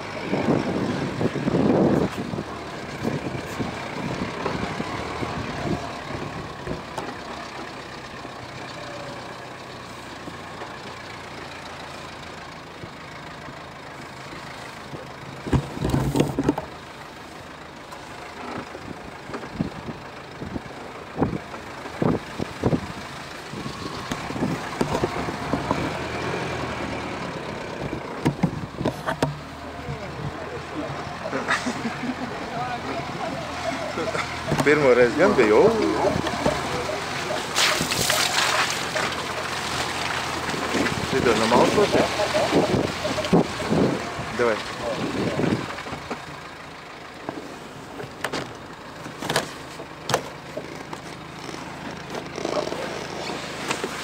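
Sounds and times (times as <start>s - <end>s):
car engine running: 0.0s - 54.0s
thumps and knocks over ruts: 0.0s - 54.0s.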